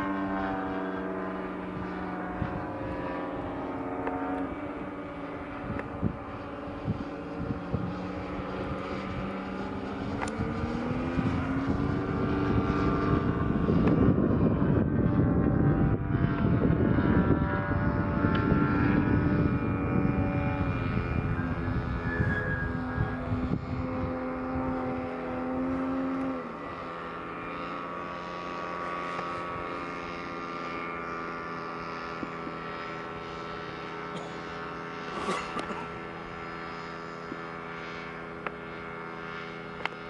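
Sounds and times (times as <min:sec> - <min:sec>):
model aeroplane engine droning: 0:00.0 - 0:40.0.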